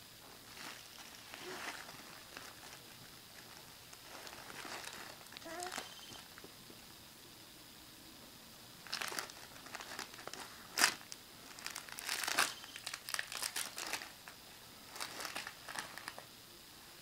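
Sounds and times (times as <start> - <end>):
bubble wrap crinkling: 0.3 - 6.5, 8.8 - 16.3.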